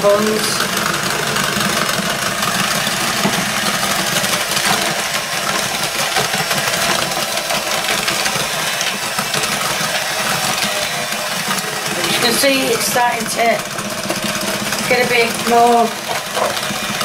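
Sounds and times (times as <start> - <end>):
electric hand mixer running: 0.0 - 17.0.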